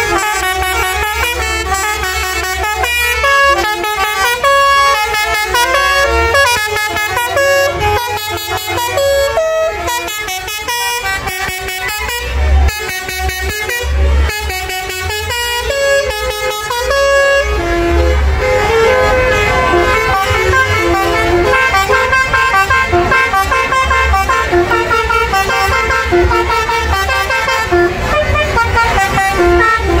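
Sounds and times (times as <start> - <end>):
musical air horns playing melodies: 0.0 - 30.0.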